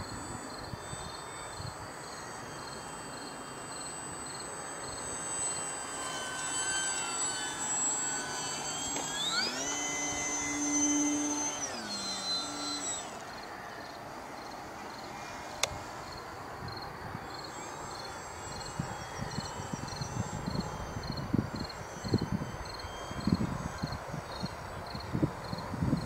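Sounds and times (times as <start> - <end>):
electric motor whine: 0.0 - 26.0
insects chirping: 0.0 - 26.0.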